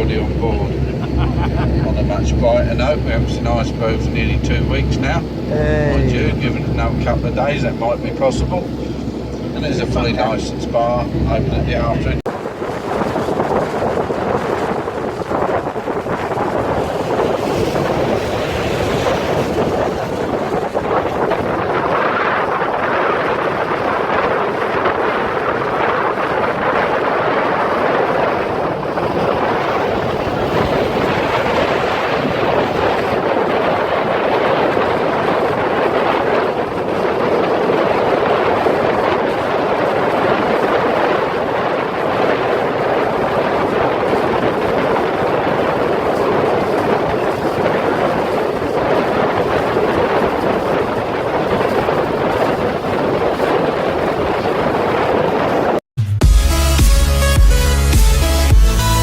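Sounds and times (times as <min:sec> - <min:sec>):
wind on microphone: 0:00.0 - 0:55.8
boat rushing noise: 0:00.0 - 0:59.0.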